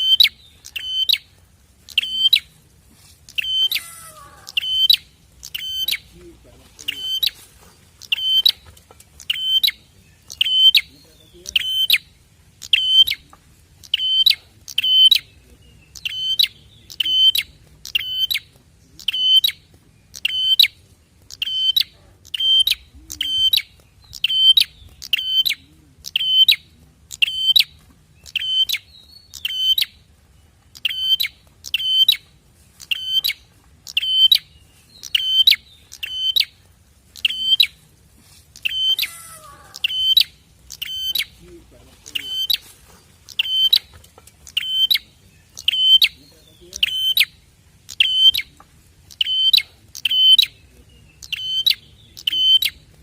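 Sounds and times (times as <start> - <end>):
bird chirping in pairs: 0.0 - 53.0.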